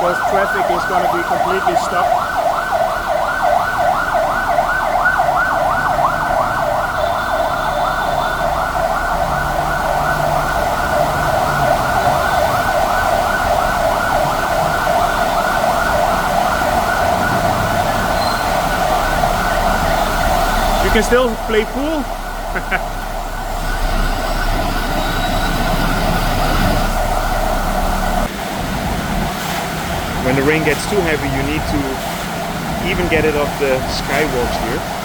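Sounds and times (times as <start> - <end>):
ambulance siren yelping: 0.0 - 29.2, 30.2 - 35.0.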